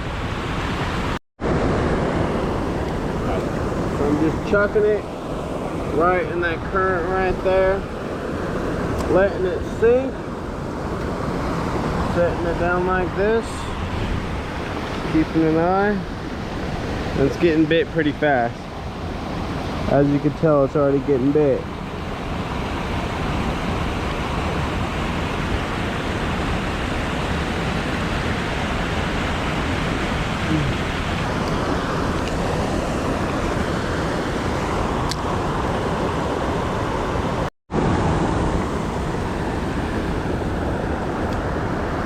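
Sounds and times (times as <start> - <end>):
flowing creek water: 0.0 - 42.0.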